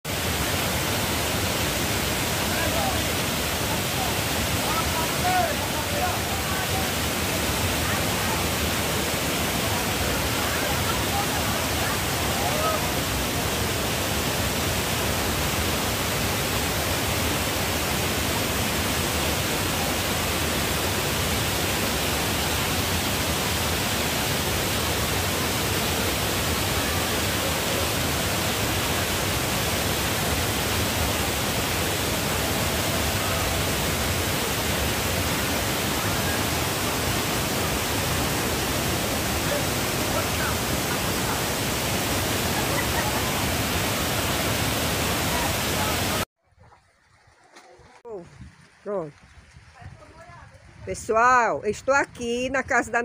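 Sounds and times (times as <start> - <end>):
waterfall and river rushing: 0.1 - 46.3.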